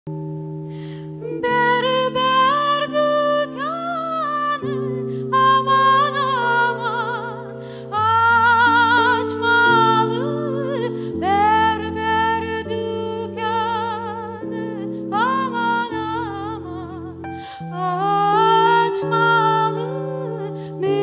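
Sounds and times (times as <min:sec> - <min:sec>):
keyboard chords: 0:00.1 - 0:21.0
woman singing with vibrato: 0:01.2 - 0:21.0.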